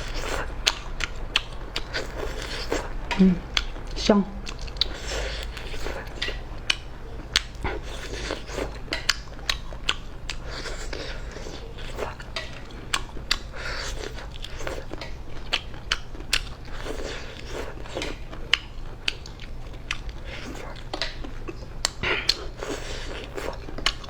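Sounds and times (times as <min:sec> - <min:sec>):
person crunching food: 0:00.0 - 0:24.0.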